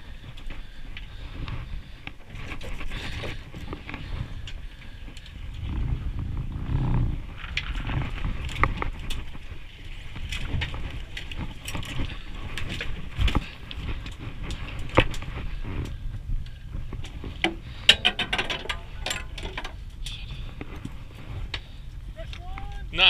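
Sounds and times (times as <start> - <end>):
sea noise: 0.0 - 23.0
wind: 0.0 - 23.0.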